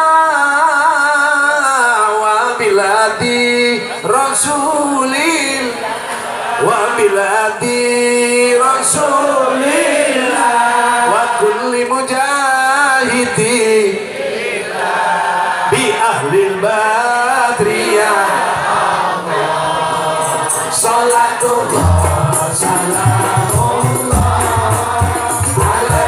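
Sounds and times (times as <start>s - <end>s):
devotional singing over pa system: 0.0s - 26.0s.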